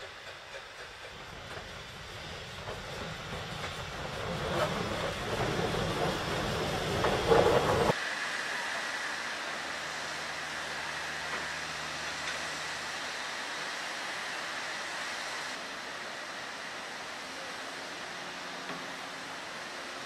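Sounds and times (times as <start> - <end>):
steady rushing hiss: 0.0 - 20.0
steam train passing: 0.0 - 20.0.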